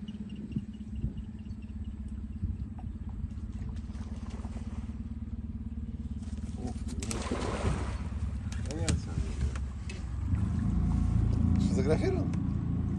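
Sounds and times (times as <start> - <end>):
outboard motor running: 0.0 - 12.9.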